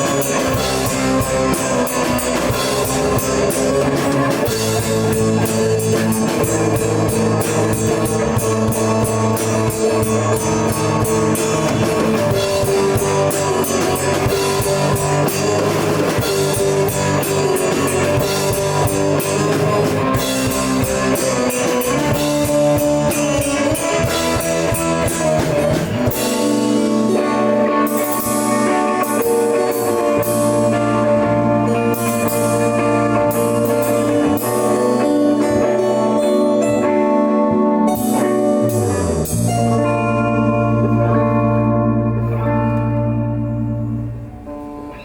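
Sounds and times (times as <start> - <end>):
drum kit drumming: 0.0 - 44.9
live rock band playing: 0.0 - 45.0.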